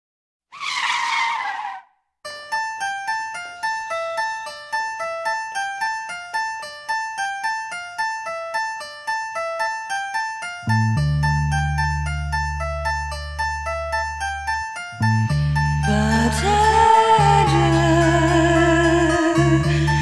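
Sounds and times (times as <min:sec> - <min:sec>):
plucked keyboard melody: 0:02.3 - 0:20.0.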